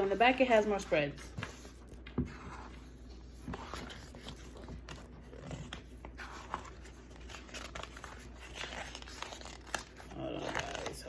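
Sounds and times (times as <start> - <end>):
paper pages turning: 0.0 - 11.0.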